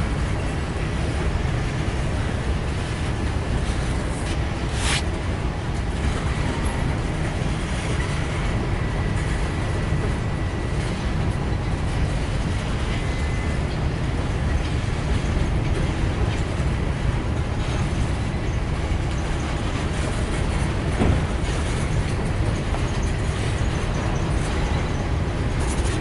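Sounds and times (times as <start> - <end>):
freight cars rolling rumble: 0.0 - 26.0.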